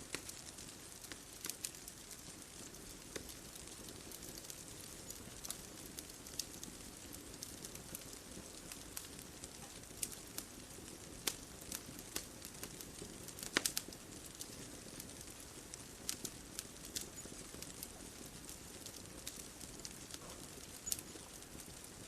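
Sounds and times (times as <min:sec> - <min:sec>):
soft steady hiss: 0:00.0 - 0:22.0
wood fire crackling: 0:00.0 - 0:22.0.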